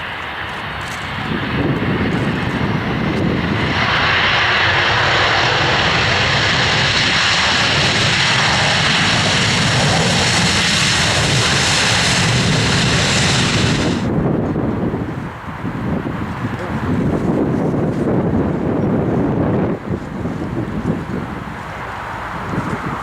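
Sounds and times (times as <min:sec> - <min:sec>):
airliner engines running: 0:00.0 - 0:23.0.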